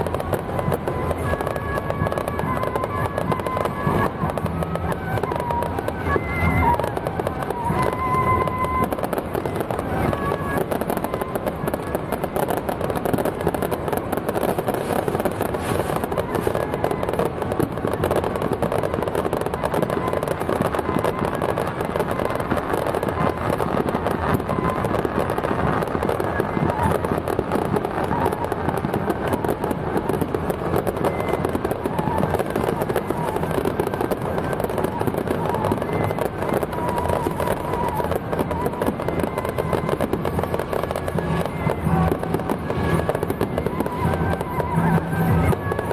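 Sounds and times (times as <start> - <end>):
firecrackers crackling: 0.0 - 45.9.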